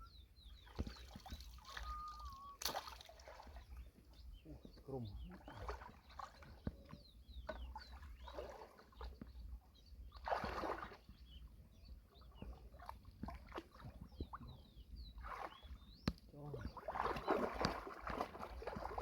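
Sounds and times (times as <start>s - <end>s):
water sloshing and splashing: 0.6s - 19.0s.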